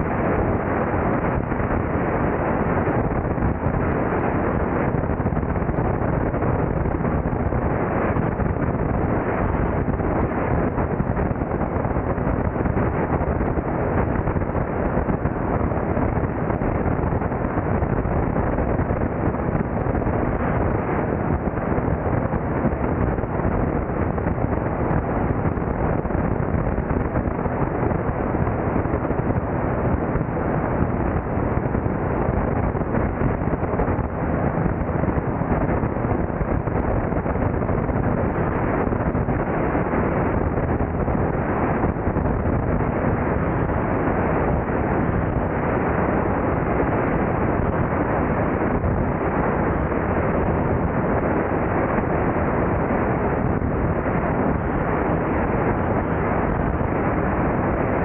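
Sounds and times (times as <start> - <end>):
plane engine and propeller drone: 0.0 - 58.0
wind buffeting microphone: 0.0 - 58.0.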